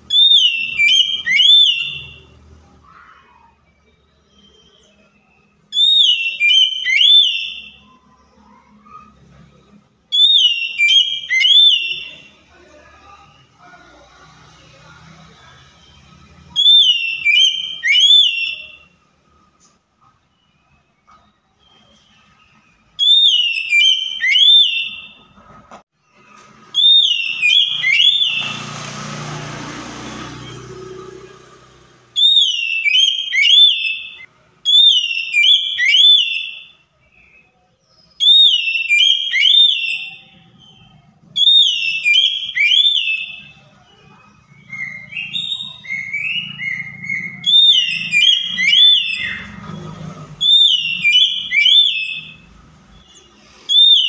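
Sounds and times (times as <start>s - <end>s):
bird whistled song: 0.0s - 12.5s, 15.9s - 25.3s, 26.1s - 28.7s, 30.2s - 54.0s.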